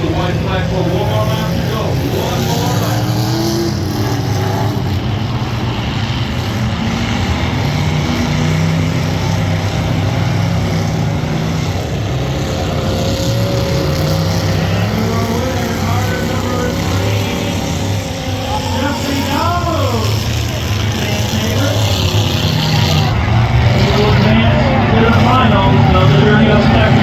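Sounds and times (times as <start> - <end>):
car engines running loudly: 0.0 - 27.0.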